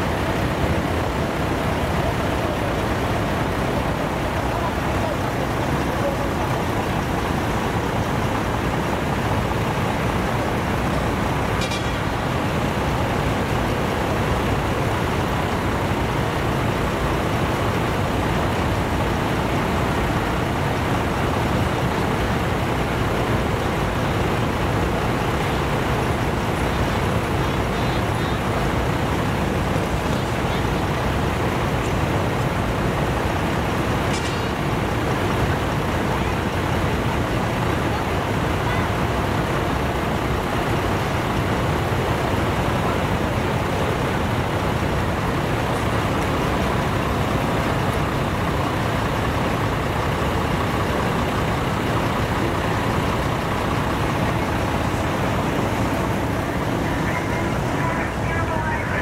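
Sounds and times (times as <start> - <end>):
diesel truck engines idling: 0.0 - 59.0.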